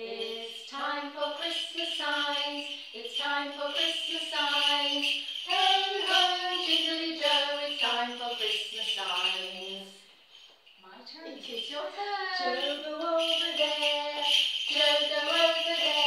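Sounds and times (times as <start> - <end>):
voices singing: 0.0 - 10.0, 11.3 - 16.0
jingle bells shaking: 0.0 - 16.0.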